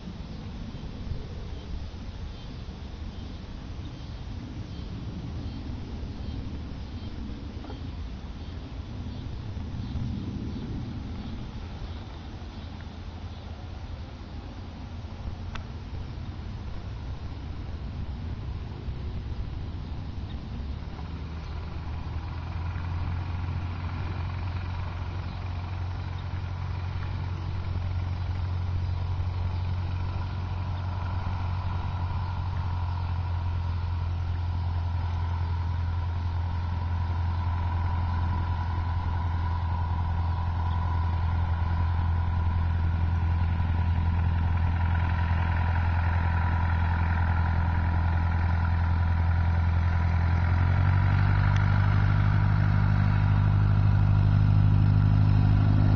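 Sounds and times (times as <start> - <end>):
light aircraft engine droning: 0.0 - 55.9.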